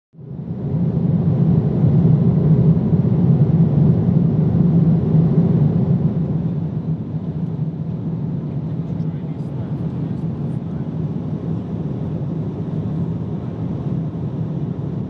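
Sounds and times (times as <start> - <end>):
airplane cabin engine rumble: 0.2 - 15.0.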